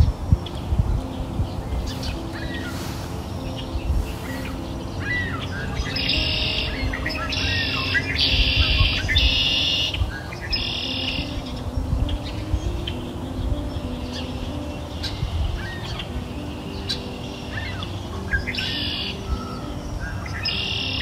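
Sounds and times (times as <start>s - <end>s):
fast trilling birdsong: 0.0s - 21.0s
songbirds chirping and singing: 0.0s - 21.0s.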